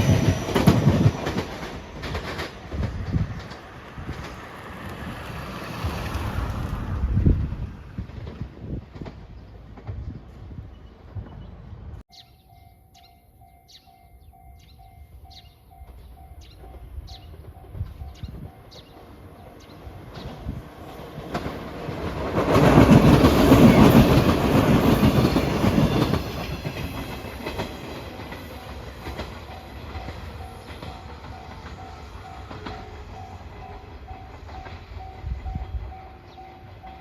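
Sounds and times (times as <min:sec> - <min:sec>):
wheels clacking over rail joints: 0:00.0 - 0:10.1, 0:15.9 - 0:37.0
train passing close: 0:00.0 - 0:37.0.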